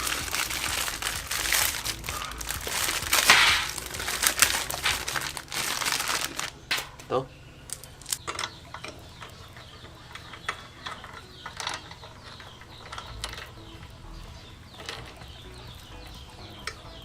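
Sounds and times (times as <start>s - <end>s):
drive chain links rattling: 0.0s - 7.1s, 7.7s - 16.8s.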